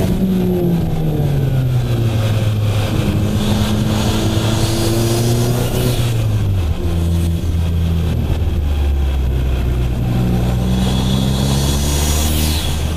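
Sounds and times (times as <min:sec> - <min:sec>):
car engine accelerating: 0:00.0 - 0:12.9.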